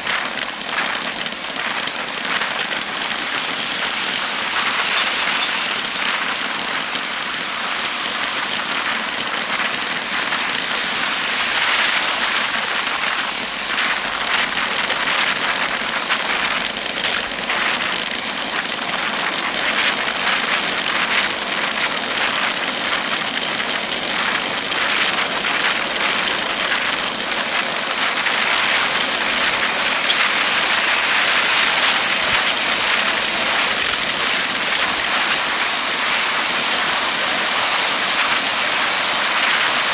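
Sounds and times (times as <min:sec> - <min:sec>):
highway traffic road noise: 0:00.0 - 0:39.9.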